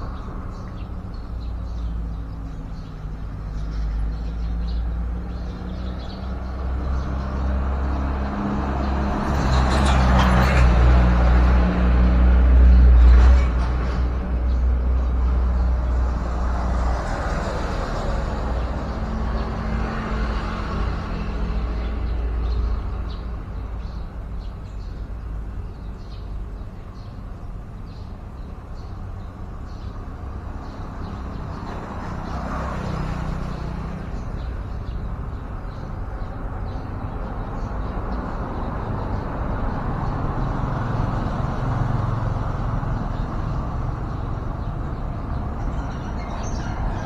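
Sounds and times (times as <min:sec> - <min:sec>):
road traffic rumbling: 0:00.0 - 0:47.0.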